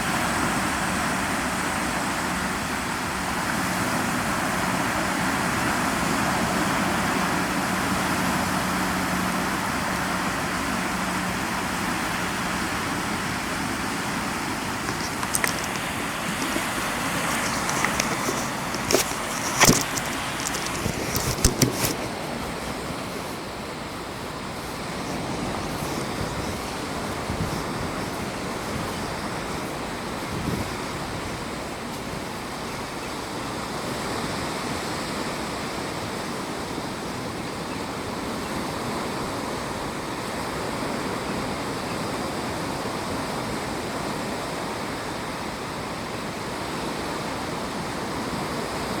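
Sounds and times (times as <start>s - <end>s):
ocean surf rushing: 0.0s - 49.0s.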